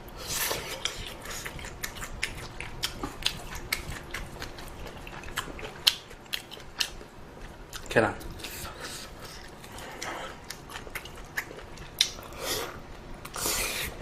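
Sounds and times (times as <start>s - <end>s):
person chewing food: 0.1s - 14.0s.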